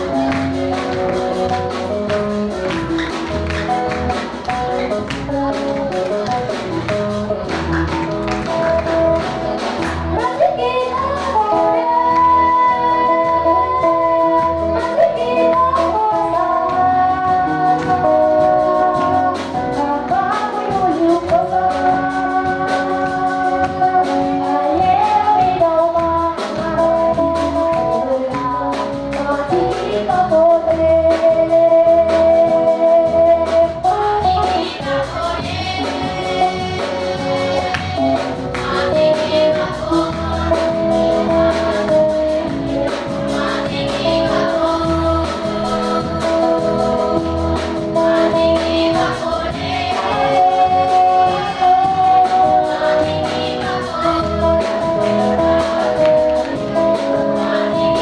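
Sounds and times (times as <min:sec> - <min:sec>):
instrumental backing with beat: 0:00.0 - 0:58.0
girls singing through a pa: 0:10.0 - 0:58.0.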